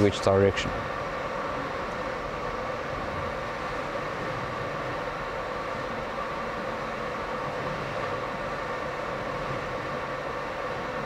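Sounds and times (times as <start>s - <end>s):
laser marking machine humming: 0.0s - 11.0s.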